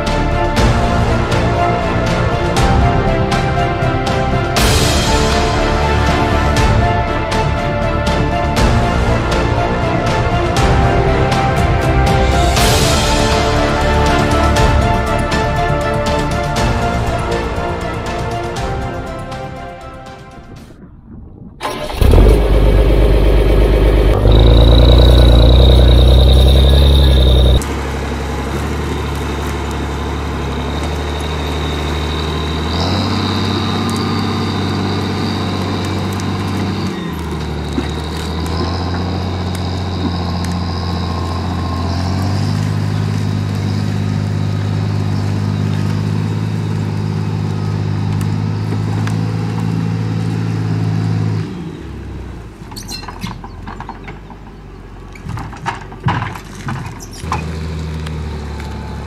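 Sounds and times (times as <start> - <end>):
skidder engine running: 0.0 - 19.3, 21.6 - 59.0.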